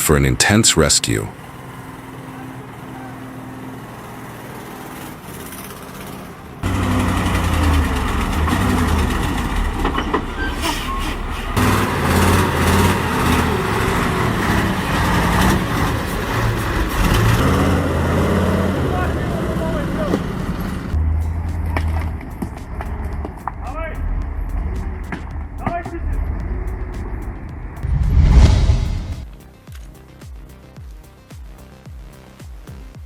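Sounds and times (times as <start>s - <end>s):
truck engine straining: 0.0s - 29.3s.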